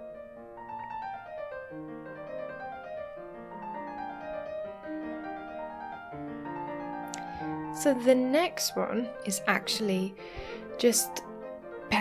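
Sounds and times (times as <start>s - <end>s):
gentle piano tune: 0.0s - 12.0s.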